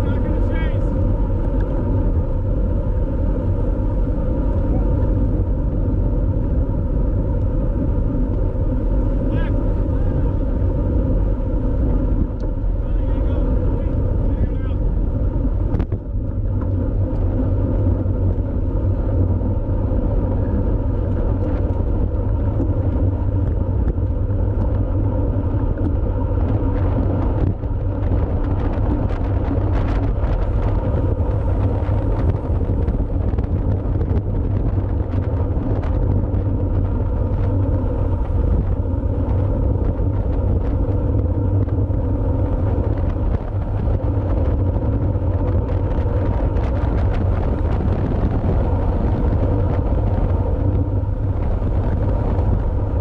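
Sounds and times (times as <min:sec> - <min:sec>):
bike wind and road rumble: 0:00.0 - 0:53.0.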